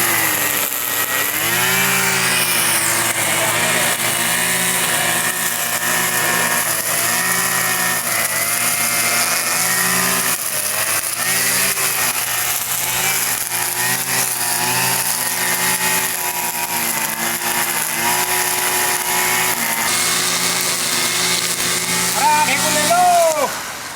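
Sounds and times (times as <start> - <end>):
brush cutter engine running: 0.0 - 23.6.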